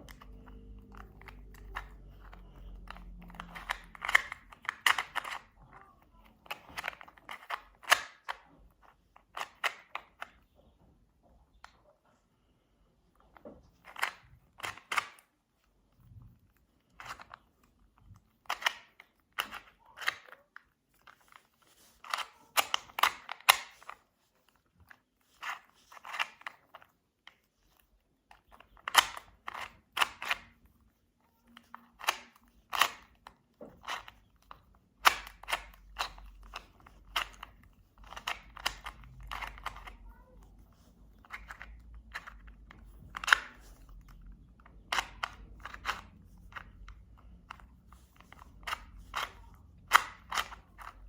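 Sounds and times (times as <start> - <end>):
puzzle cube plastic clicking: 0.0 - 11.8, 13.2 - 51.0.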